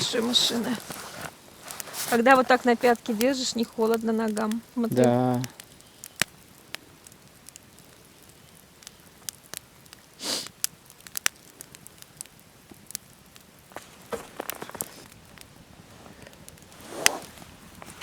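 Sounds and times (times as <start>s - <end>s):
campfire crackling: 0.0s - 18.0s
sharp pops of fire: 0.0s - 18.0s.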